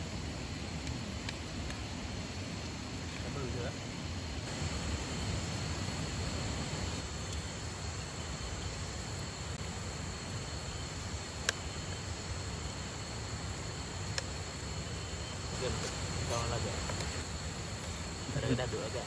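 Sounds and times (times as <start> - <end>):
high insect tone: 0.0 - 19.0.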